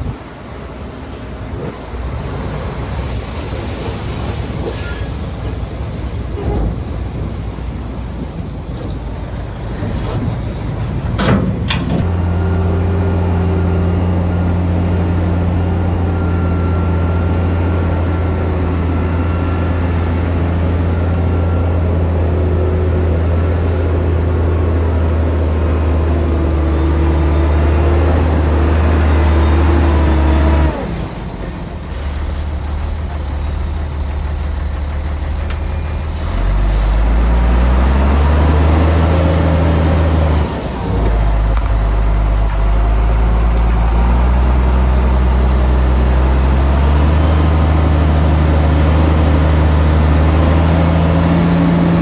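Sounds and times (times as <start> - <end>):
heavy diesel engine droning: 0.0 - 52.0.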